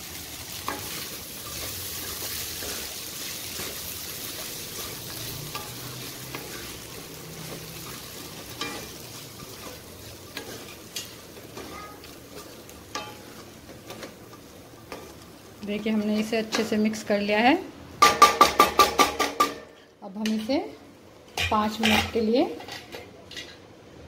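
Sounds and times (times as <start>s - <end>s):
food sizzling in a pan: 0.0s - 19.4s.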